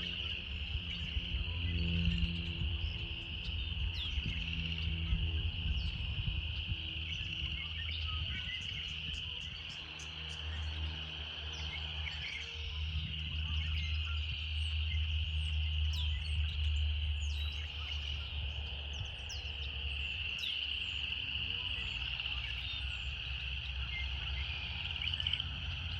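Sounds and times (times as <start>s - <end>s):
cicadas buzzing: 0.0s - 25.9s.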